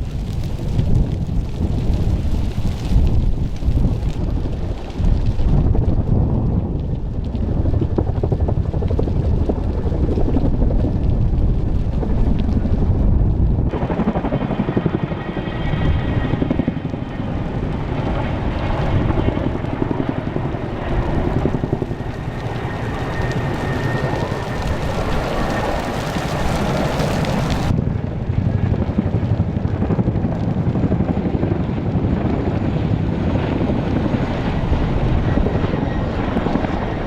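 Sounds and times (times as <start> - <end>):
helicopter rumble: 0.0 - 37.0.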